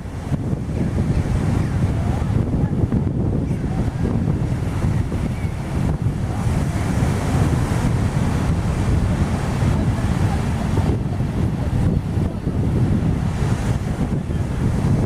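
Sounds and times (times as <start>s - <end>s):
large waves rushing: 0.0s - 15.0s
wind buffeting microphone: 0.0s - 15.0s.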